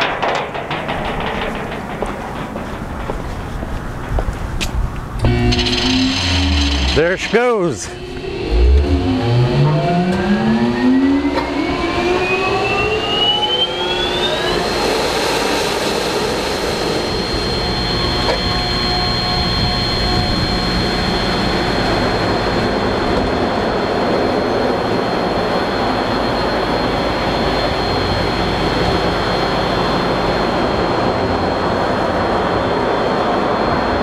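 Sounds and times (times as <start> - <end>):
large pump motor whining: 0.2 - 34.0.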